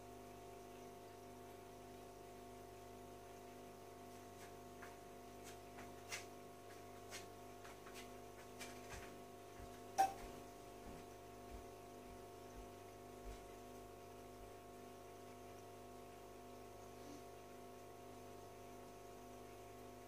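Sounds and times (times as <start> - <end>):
aquarium filter pump hum: 0.0 - 20.0.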